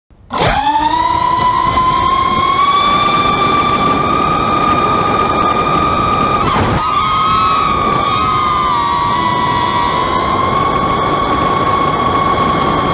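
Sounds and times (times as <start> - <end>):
drone motors whining: 0.3 - 12.9.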